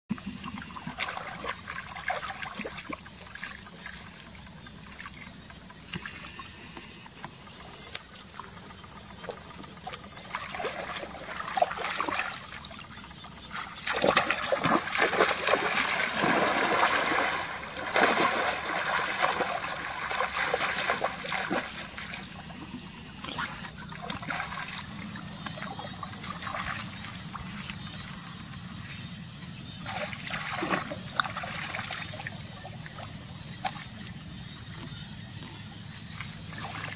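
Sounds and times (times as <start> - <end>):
water splashing and trickling: 0.1 - 28.5, 29.8 - 35.0, 35.6 - 36.9.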